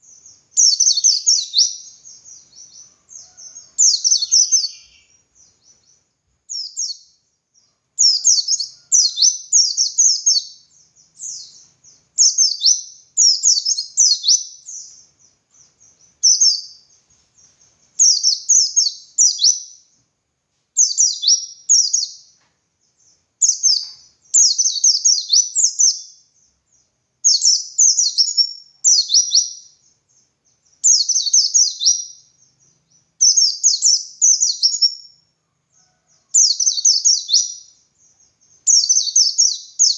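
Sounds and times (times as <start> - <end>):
bird singing: 0.0 - 20.1, 20.8 - 39.9.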